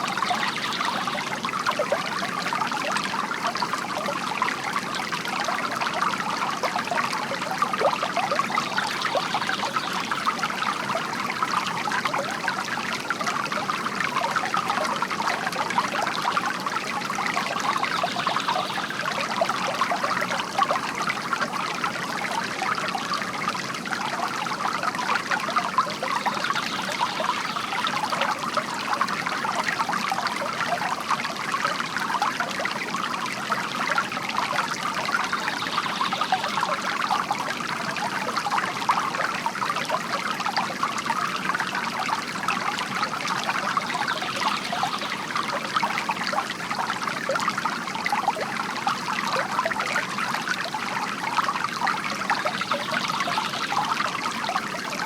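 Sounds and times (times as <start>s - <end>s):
fountain water trickling and splashing: 0.0s - 55.0s.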